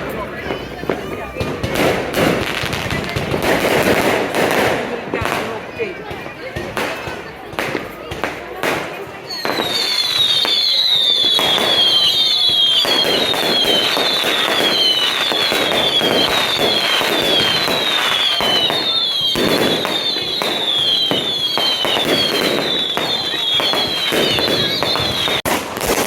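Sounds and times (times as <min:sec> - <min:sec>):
fireworks crackling and cracking: 0:00.0 - 0:26.0
whistling fireworks: 0:00.1 - 0:26.0.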